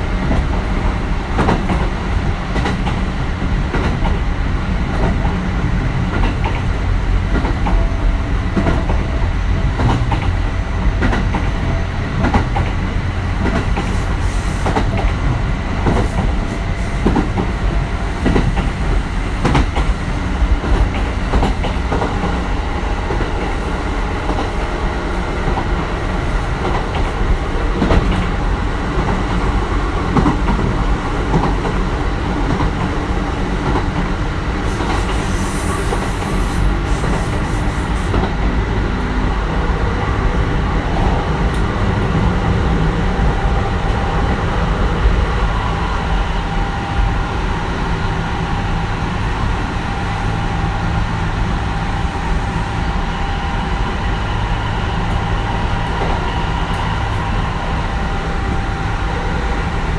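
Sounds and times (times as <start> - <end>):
train wheel-on-rail rumble: 0.0 - 59.9.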